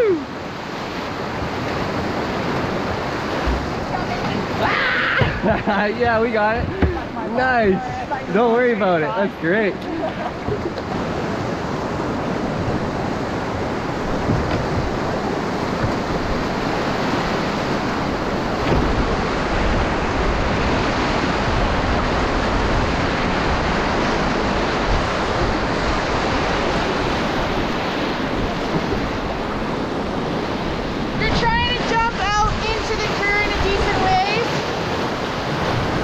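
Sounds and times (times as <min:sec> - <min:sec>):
whitewater rapids rushing: 0:00.0 - 0:36.0
wind on microphone: 0:00.0 - 0:36.0.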